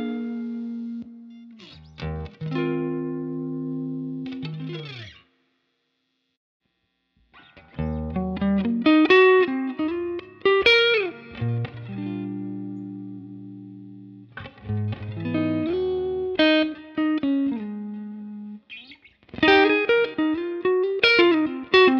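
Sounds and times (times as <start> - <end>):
electric guitar: 0.0 - 5.3, 7.3 - 21.9.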